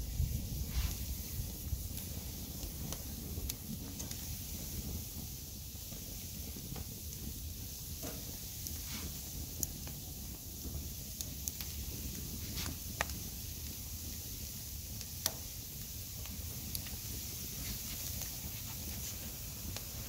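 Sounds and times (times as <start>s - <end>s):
fire crackling and popping: 0.0s - 20.0s
fire hissing in a grill: 0.0s - 20.0s.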